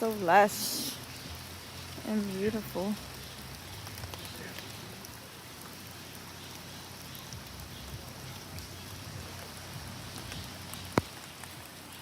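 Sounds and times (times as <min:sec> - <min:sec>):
individual raindrops: 0:00.0 - 0:12.0
steady rain falling: 0:00.0 - 0:12.0.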